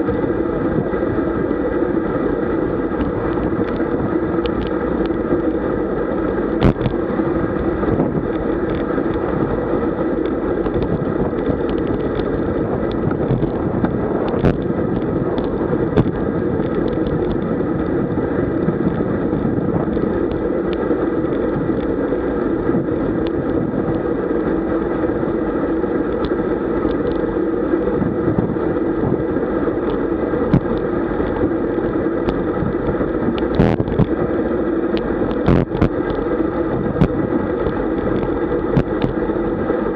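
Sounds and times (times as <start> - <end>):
bicycle clicks: 0.0 - 34.2, 34.8 - 39.8
tyres on asphalt: 0.0 - 39.9
wind noise: 0.0 - 39.9.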